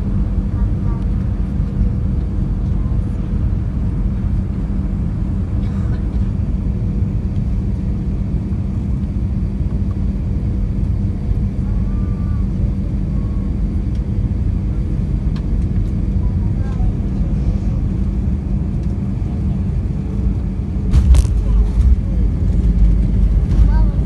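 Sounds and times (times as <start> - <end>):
constant hum tone: 0.0 - 24.0
jet cabin rumble: 0.0 - 24.0.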